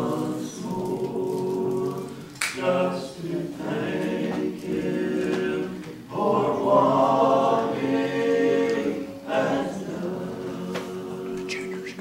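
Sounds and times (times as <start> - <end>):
voices singing gospel song: 0.0 - 12.0.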